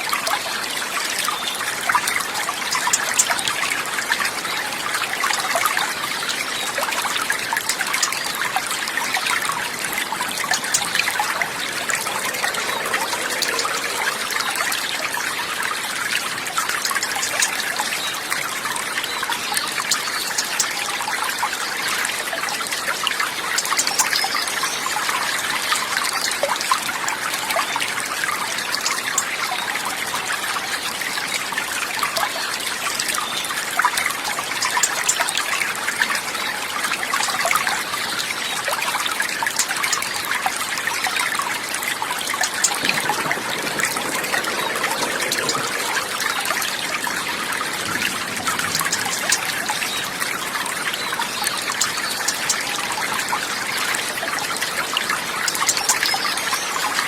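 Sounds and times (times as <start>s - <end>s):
water drips: 0.0s - 57.0s
water trickling and splashing: 0.0s - 57.0s.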